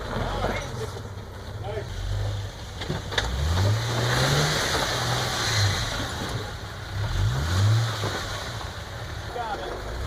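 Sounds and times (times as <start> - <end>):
off-road engine revving: 0.0 - 10.0.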